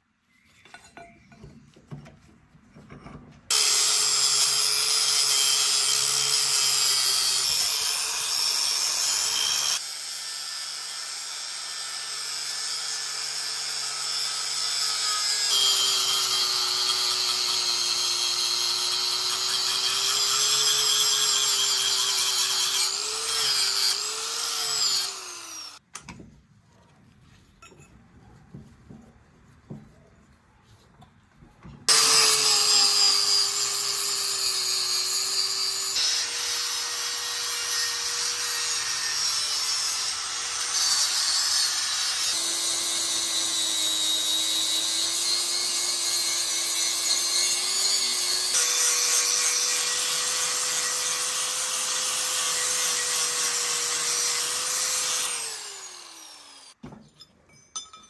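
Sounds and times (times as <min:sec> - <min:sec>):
electric grinder grinding steel: 0:03.5 - 0:25.8, 0:31.9 - 0:56.8.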